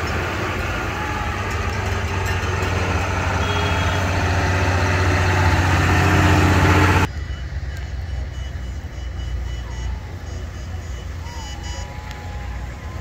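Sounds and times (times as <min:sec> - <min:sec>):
tractor diesel engine droning: 0:00.0 - 0:13.0.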